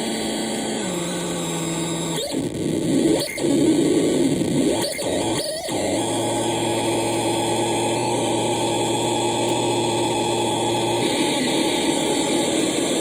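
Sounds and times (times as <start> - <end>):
harsh electronic noise: 0.3 - 13.0.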